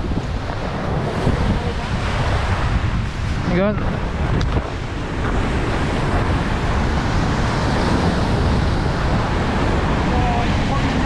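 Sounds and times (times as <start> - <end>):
sea waves washing on shore: 0.0 - 11.0
wind rumbling on microphone: 0.0 - 11.0.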